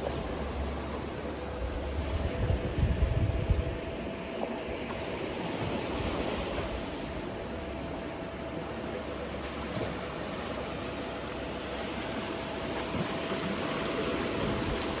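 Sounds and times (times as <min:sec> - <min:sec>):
faint hum: 0:00.0 - 0:15.0
sea waves washing on shore: 0:00.0 - 0:15.0.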